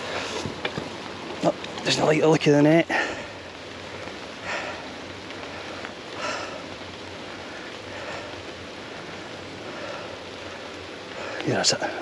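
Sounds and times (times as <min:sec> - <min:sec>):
steady water hiss: 0:00.0 - 0:12.0.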